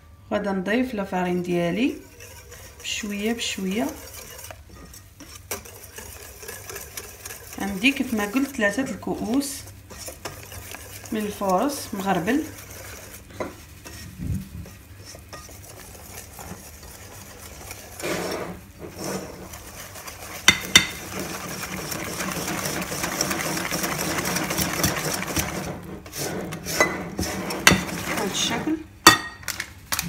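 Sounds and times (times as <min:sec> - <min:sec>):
whisk scraping glass bowl: 0:01.4 - 0:29.2.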